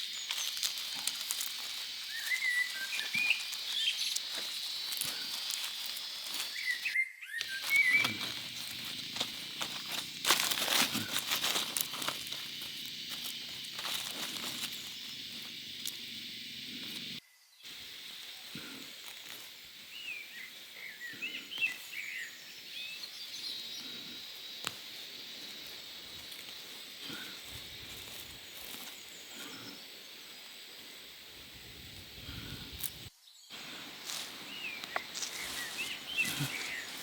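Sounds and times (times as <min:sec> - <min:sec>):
steady outdoor hiss: 0:00.0 - 0:37.0.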